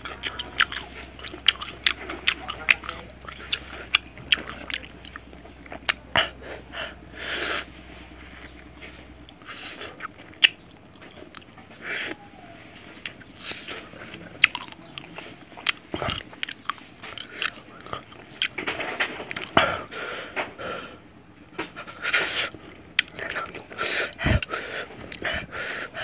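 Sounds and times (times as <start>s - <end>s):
crunchy chewing with mouth clicks: 0.0s - 26.0s.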